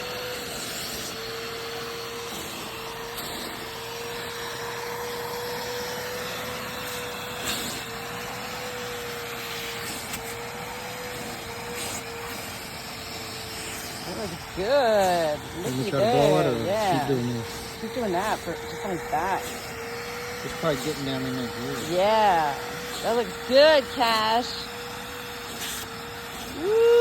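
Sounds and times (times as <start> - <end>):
small vacuum cleaner whining: 0.0 - 27.0.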